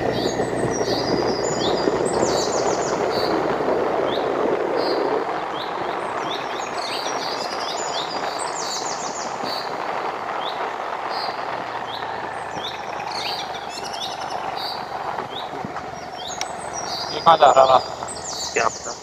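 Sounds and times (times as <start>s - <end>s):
background rush: 0.0s - 19.0s
wild birds chirping: 0.0s - 19.0s.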